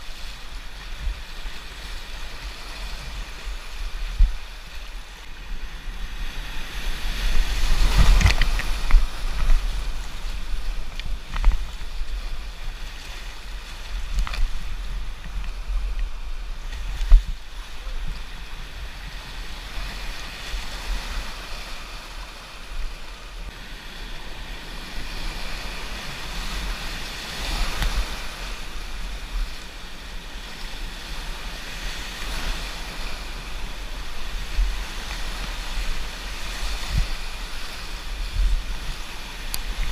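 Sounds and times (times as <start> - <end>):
wind buffeting microphone: 0.0 - 23.6, 24.2 - 39.9.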